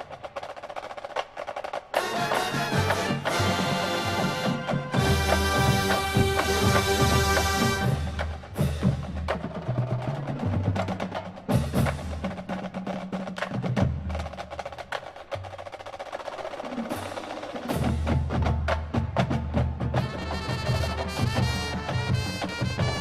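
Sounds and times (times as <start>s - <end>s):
rapid drum strokes and rolls: 0.0s - 23.0s.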